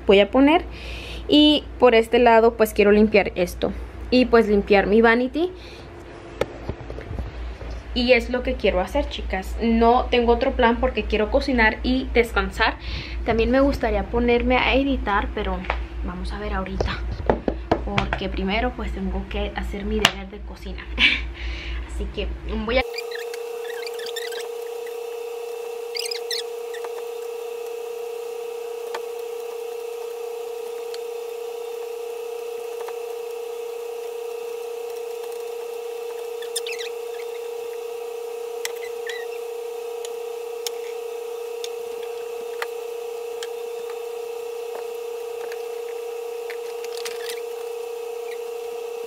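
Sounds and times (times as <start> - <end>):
appliance humming: 0.0 - 49.0.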